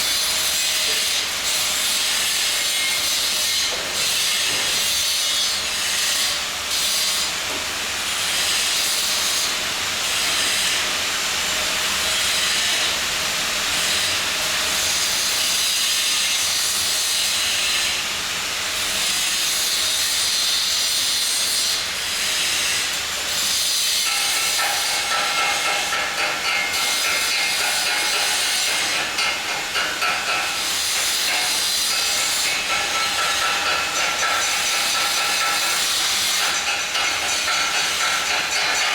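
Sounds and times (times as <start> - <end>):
welding arc hissing and crackling: 0.0 - 38.9.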